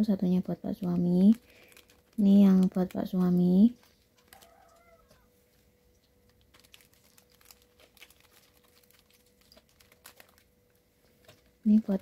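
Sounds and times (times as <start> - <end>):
faint hum: 0.0 - 12.0
sachet crinkling: 0.6 - 5.3, 5.9 - 12.0.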